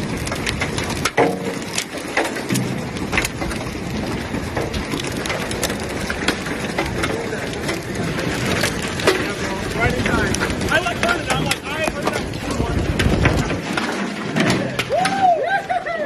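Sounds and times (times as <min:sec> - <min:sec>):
sharp knocks and cracks: 0:00.0 - 0:15.3
rain: 0:00.0 - 0:16.0
wind: 0:00.0 - 0:16.0.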